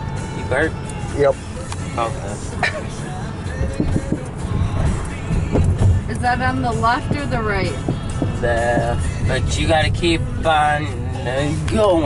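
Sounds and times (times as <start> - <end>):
moving car rumble: 0.0 - 12.0
music from car radio: 0.0 - 12.0.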